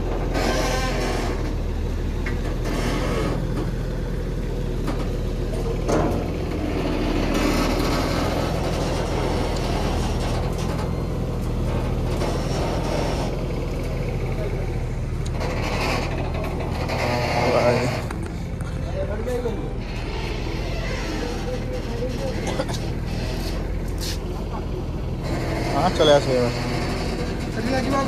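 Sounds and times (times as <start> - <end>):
bus engine humming: 0.0 - 28.0
road and body noise: 0.0 - 28.0.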